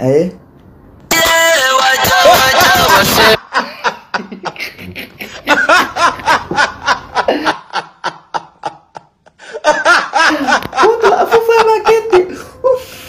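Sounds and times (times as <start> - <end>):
man giggling: 2.0 - 12.8.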